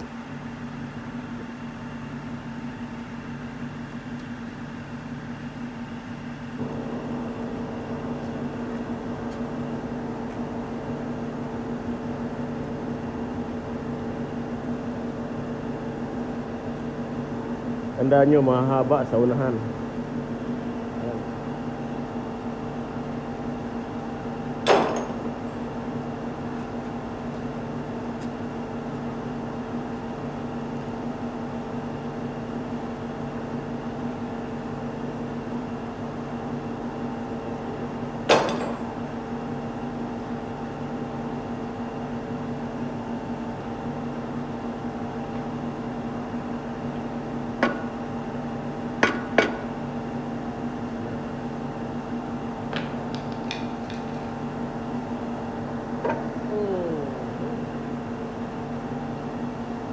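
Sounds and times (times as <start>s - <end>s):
steady low hum: 5.4s - 34.3s, 39.0s - 59.9s.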